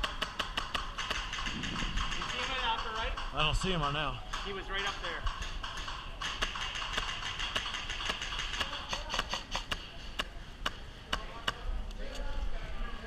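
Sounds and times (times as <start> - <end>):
airsoft gun shots: 0.0 - 11.2.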